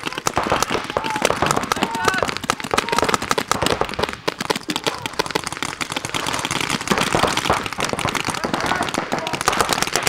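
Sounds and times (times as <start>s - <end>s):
paintball markers firing: 0.0s - 10.0s.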